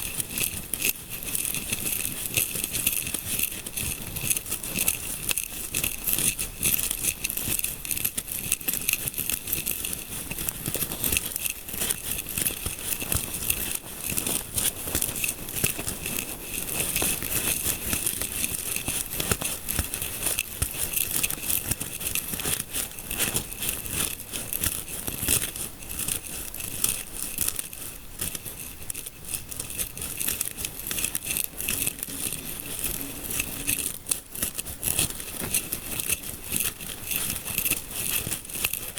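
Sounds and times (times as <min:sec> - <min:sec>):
fingers rubbing through hair: 0:00.0 - 0:38.9.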